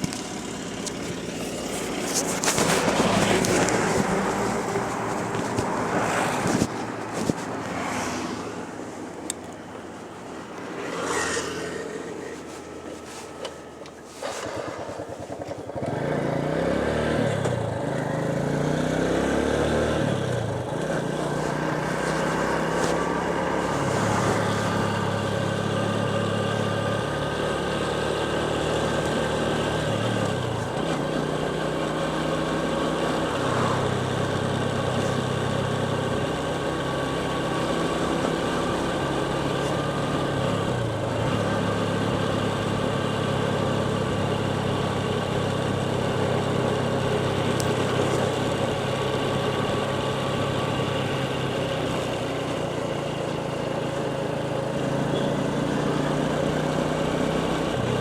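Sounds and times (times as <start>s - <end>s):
motorcycle engine accelerating: 0.0s - 8.6s, 10.4s - 58.0s.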